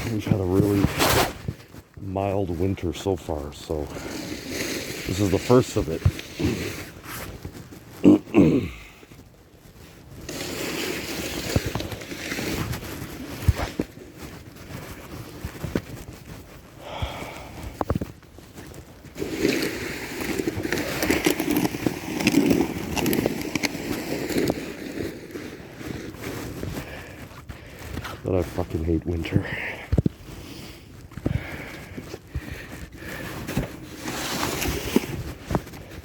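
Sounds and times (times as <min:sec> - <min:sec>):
snow shovel scraping pavement: 0:00.0 - 0:36.0.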